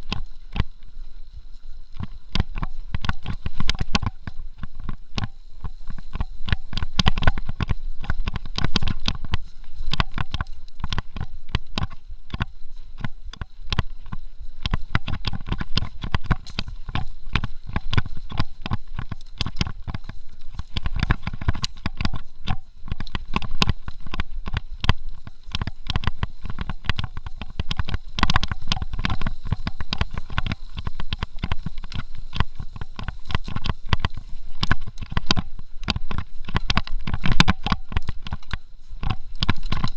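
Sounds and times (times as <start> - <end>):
bike rattling over rough trail: 0.0 - 39.9
wind rumble on microphone: 0.0 - 39.9.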